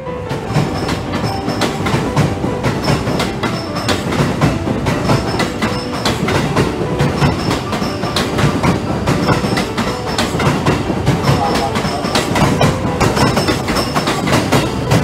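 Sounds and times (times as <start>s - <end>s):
train wheels clacking over rail joints: 0.0s - 15.0s.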